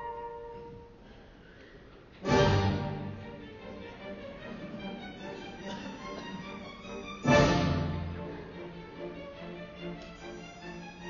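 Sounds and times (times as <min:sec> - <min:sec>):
orchestral strings music: 0:00.0 - 0:01.0, 0:02.2 - 0:11.0.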